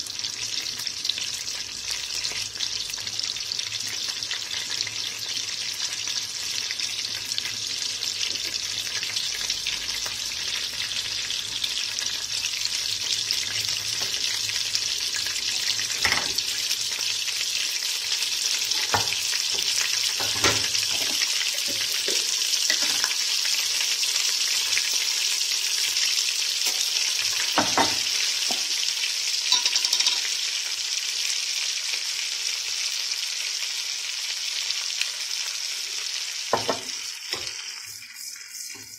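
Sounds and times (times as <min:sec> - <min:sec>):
butter sizzling in a frying pan: 0:00.0 - 0:38.9.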